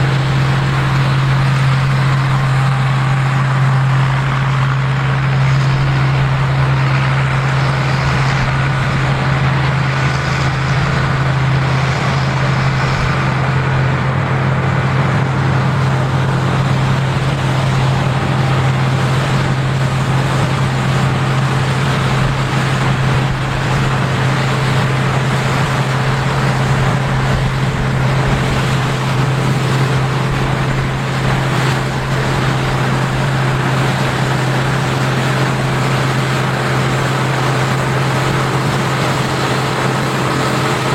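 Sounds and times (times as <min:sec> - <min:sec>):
combine harvester drone: 0:00.0 - 0:40.9.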